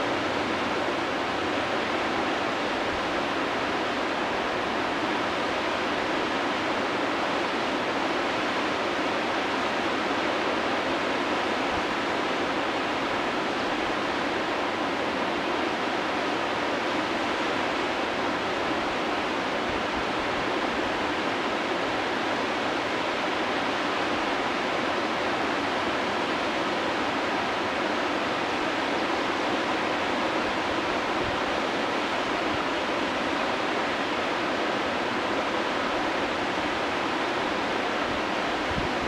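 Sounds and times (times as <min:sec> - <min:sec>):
whitewater rapid rushing: 0:00.0 - 0:39.0.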